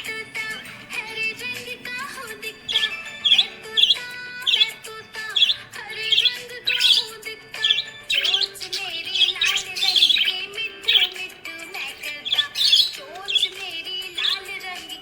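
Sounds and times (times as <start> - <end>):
background music: 0.0 - 15.0
budgerigars chirping: 2.6 - 14.8.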